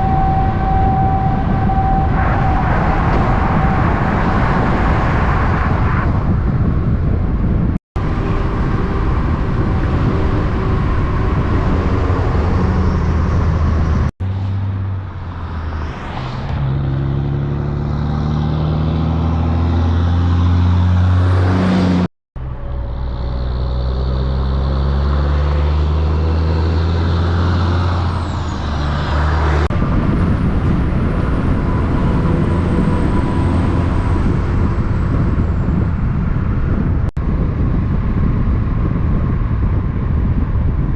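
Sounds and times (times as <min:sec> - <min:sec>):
diesel truck engines pulling: 0:00.0 - 0:40.9.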